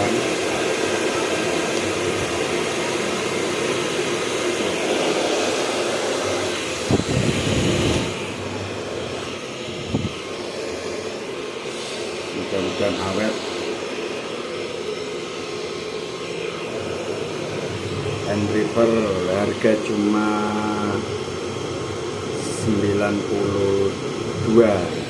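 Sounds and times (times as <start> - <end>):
hair dryer blowing: 0.0 - 25.0.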